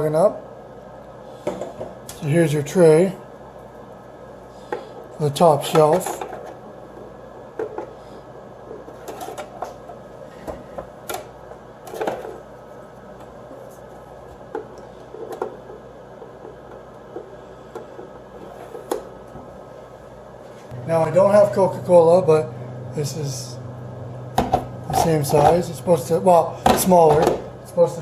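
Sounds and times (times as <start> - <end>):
fridge fan humming: 0.0 - 28.0.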